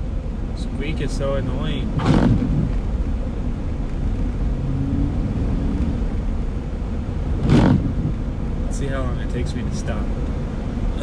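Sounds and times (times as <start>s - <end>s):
road rumble and tyre noise: 0.0s - 11.0s.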